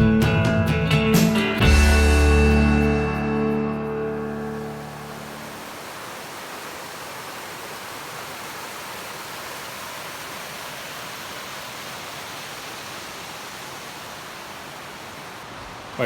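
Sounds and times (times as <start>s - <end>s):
rushing water: 1.9s - 16.0s.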